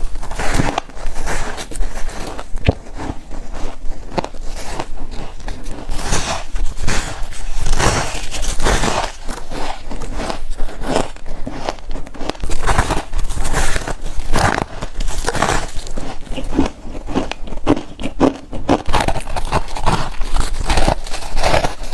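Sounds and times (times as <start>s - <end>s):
person chewing crunchy frost: 0.0s - 21.9s.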